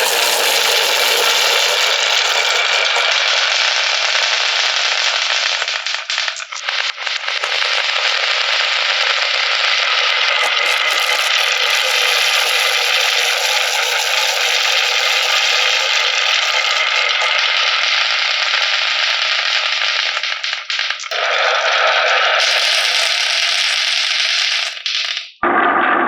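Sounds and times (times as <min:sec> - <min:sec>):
marbles rattling down marble run: 0:00.0 - 0:06.5, 0:07.2 - 0:25.3.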